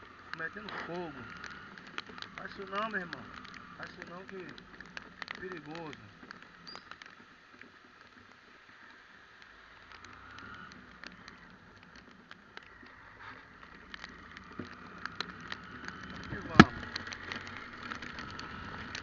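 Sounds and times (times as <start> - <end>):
motorcycle riding on wet road: 0.0 - 19.0
raindrops ticking on microphone: 0.0 - 19.0.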